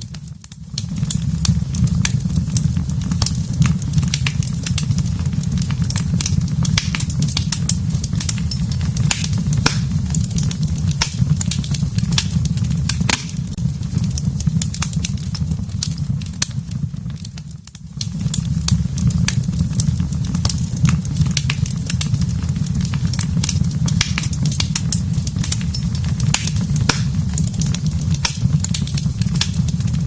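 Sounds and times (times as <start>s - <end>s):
fire pops and snaps: 0.0s - 30.0s
low rumble of flames: 0.0s - 30.0s.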